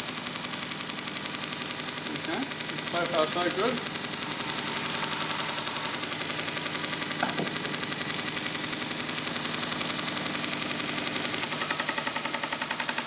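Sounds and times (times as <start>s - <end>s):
belt sander running: 0.0s - 13.0s.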